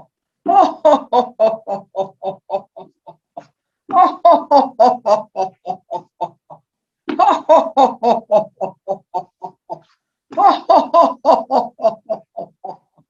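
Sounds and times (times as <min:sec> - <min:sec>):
person laughing rhythmically: 0:00.5 - 0:13.0.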